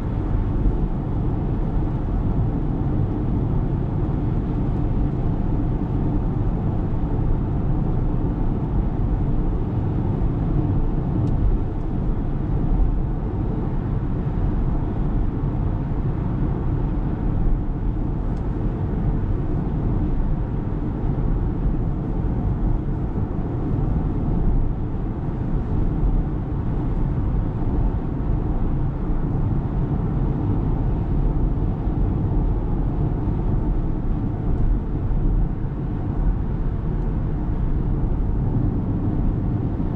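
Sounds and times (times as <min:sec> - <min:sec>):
road rumble and tyre noise: 0:00.0 - 0:39.9.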